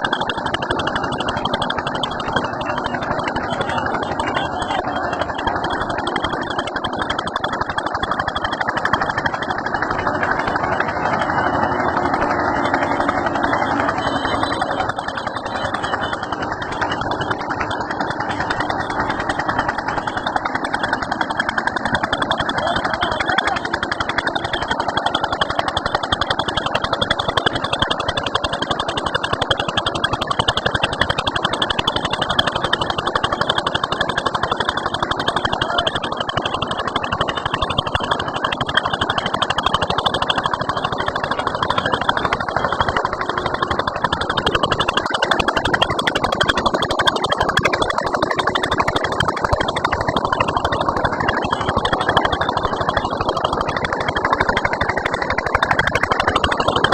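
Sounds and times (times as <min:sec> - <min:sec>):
rotavator working: 0:00.0 - 0:56.9
tractor diesel engine running: 0:00.0 - 0:56.9.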